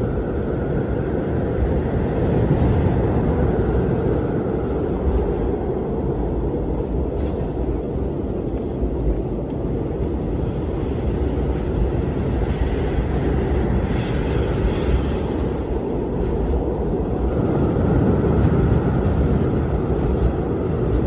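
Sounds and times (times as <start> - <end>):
strong wind blowing: 0.0 - 21.0.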